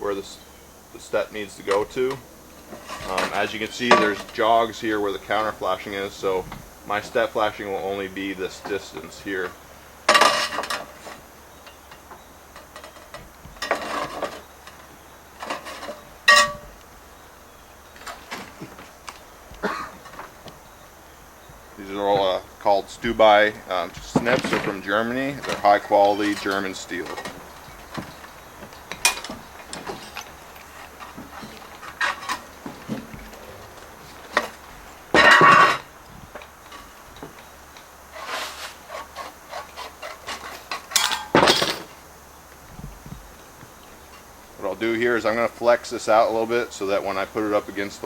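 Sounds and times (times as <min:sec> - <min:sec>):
sheet metal clanging: 0:00.0 - 0:19.0, 0:21.2 - 0:37.4, 0:38.1 - 0:42.1.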